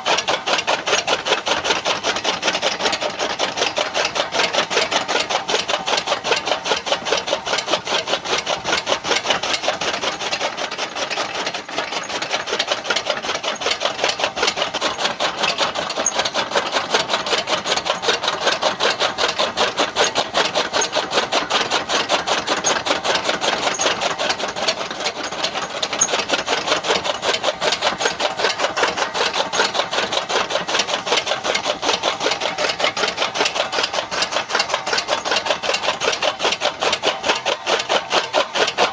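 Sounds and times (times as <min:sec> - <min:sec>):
chaff cutter rasping: 0:00.0 - 0:38.9.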